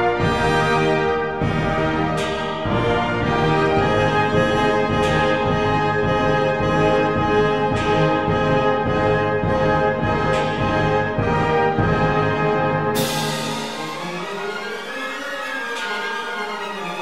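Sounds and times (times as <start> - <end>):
orchestral music led by brass: 0.0 - 17.0.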